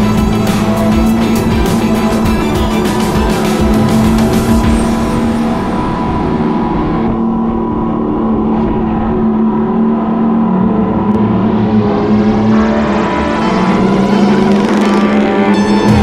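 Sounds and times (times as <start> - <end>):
simulated race car engine drone: 0.0 - 16.0.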